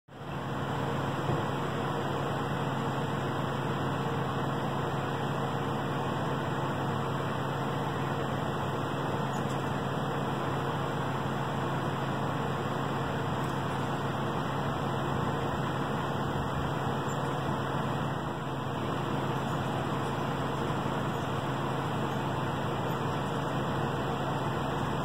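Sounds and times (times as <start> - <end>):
machine hum: 0.1 - 25.0.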